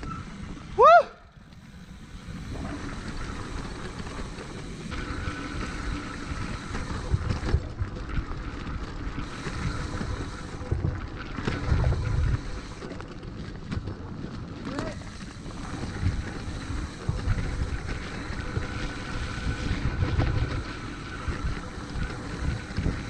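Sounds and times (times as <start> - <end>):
bike rattling over bumps: 0.0 - 23.0
bike tyres rolling over dirt: 0.0 - 23.0
wind rumbling on microphone: 1.6 - 23.0.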